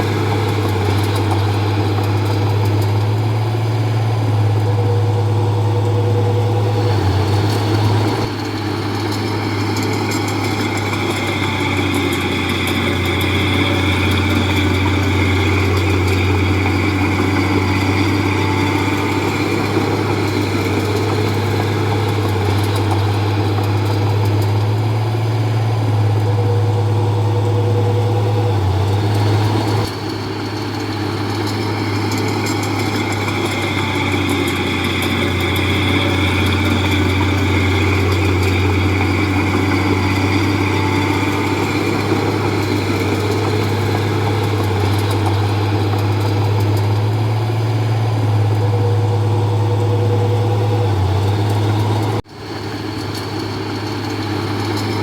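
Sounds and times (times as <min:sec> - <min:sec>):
bulldozer diesel engine humming: 0:00.0 - 0:55.0.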